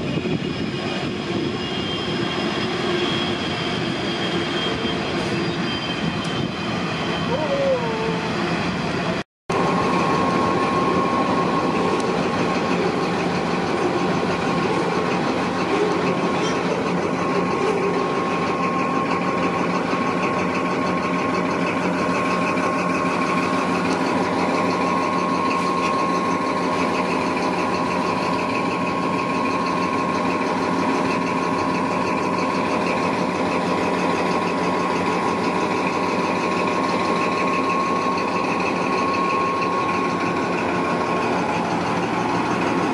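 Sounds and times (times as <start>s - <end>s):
diesel engine drone: 0.0s - 42.9s
high steady whine: 0.0s - 42.9s.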